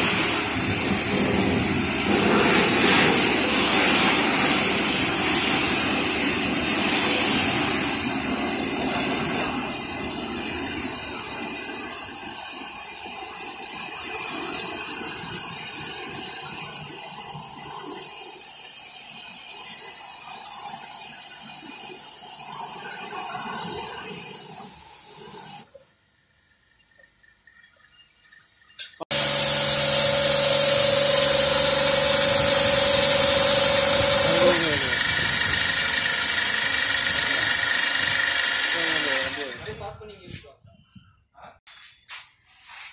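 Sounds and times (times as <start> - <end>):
pressure washer water jet hissing: 0.0 - 25.7, 29.0 - 39.8.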